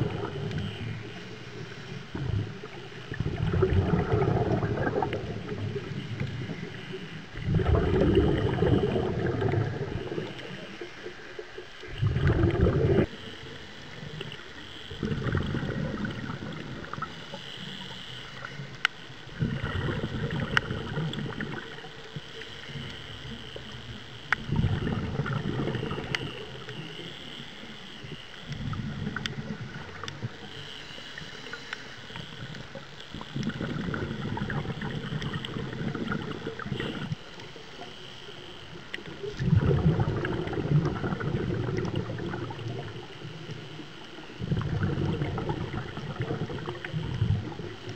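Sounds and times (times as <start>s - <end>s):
underwater bubbles rushing: 0.0s - 47.9s.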